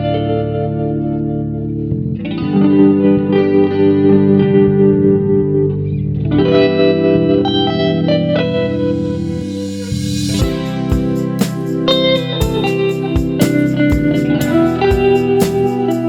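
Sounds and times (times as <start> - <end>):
guitar with chorus effect: 0.0 - 16.0.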